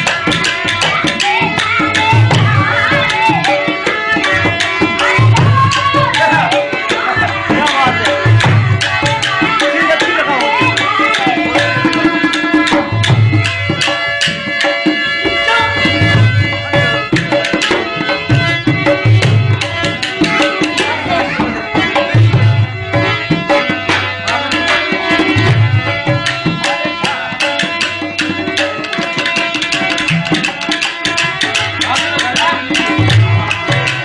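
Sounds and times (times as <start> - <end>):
hand drum rhythm: 0.0 - 34.0
held melodic notes: 0.0 - 34.0.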